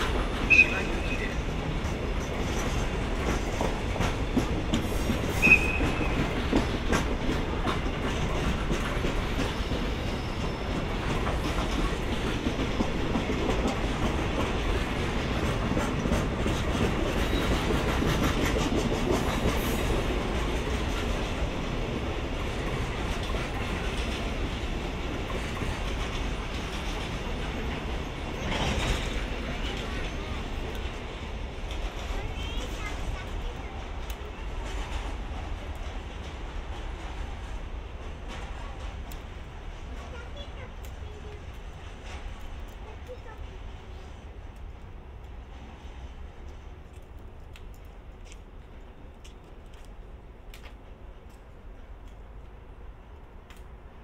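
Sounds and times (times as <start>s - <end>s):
train wheels clickety-clack: 0.0s - 54.0s.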